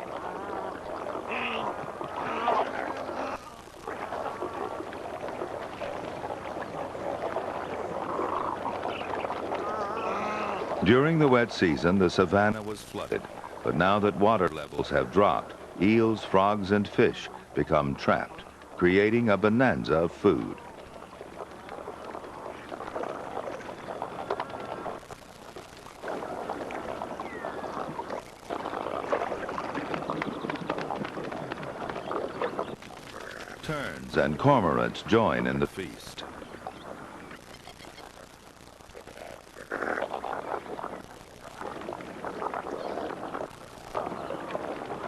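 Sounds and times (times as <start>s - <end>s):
shallow water splashing: 0.0s - 45.0s.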